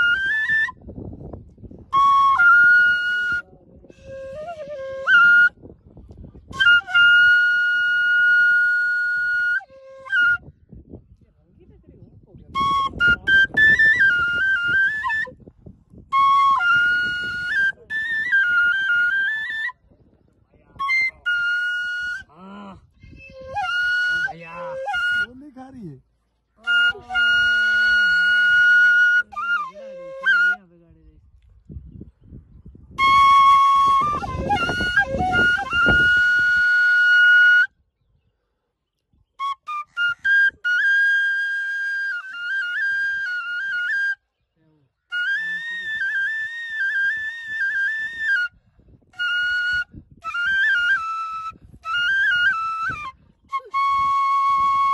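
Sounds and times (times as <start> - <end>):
flute melody: 0.0 - 1.0, 1.6 - 10.7, 12.5 - 20.0, 20.6 - 25.8, 26.6 - 30.7, 32.9 - 37.8, 39.4 - 44.3, 45.1 - 54.9.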